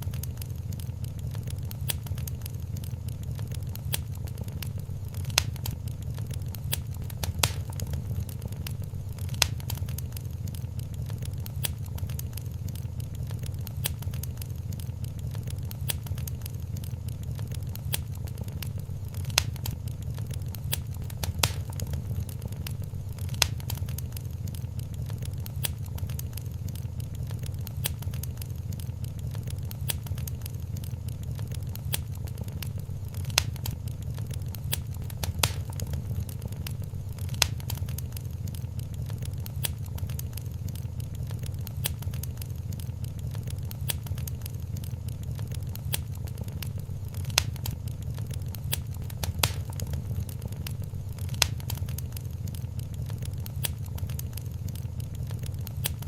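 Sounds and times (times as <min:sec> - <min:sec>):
sharp pops of fire: 0:00.0 - 0:56.0
wood fire crackling: 0:00.0 - 0:56.0.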